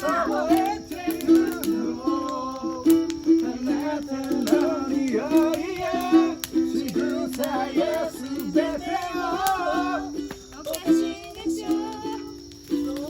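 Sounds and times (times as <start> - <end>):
person singing: 0.0 - 13.0
ukulele playing a tune: 0.0 - 13.0.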